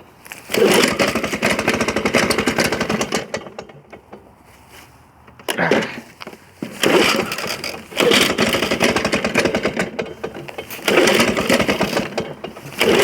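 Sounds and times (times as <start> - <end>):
lawn mower engine running: 0.0 - 13.0
pull cord pull: 0.4 - 4.2, 5.4 - 13.0.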